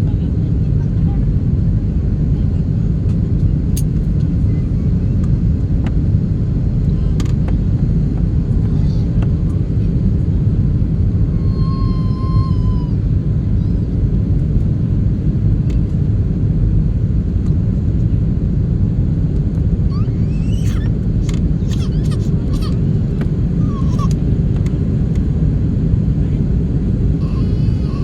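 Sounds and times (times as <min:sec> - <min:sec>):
jet engines and airflow rumble: 0:00.0 - 0:28.0.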